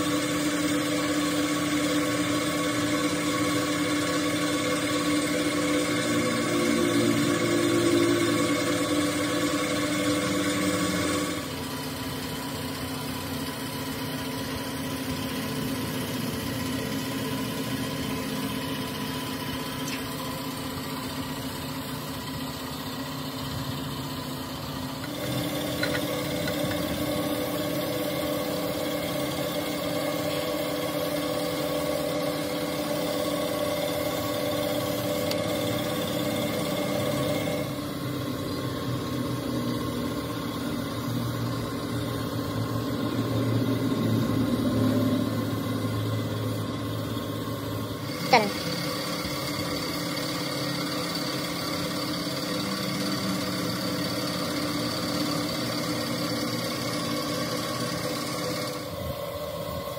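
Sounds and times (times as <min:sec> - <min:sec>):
motor running: 0:00.0 - 0:59.9.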